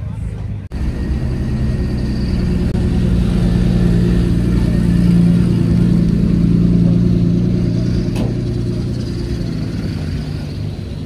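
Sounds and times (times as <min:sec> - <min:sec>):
car engine running: 0:00.7 - 0:11.0.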